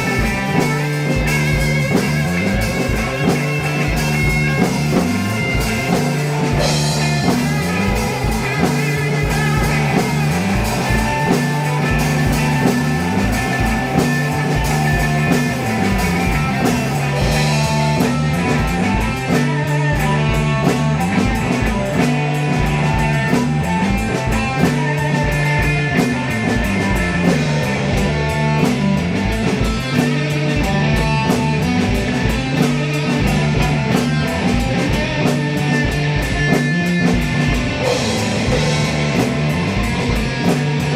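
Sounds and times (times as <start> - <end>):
drum kit beat: 0.0 - 40.9
electric guitar: 0.0 - 40.9
repeating bass line: 0.0 - 40.9.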